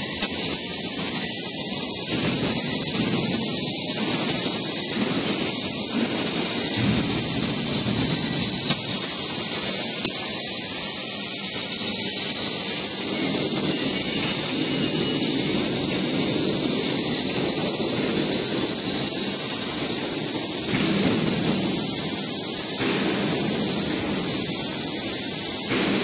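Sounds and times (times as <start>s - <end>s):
loud steady hiss: 0.0s - 26.0s
low workshop rumble: 0.0s - 26.0s.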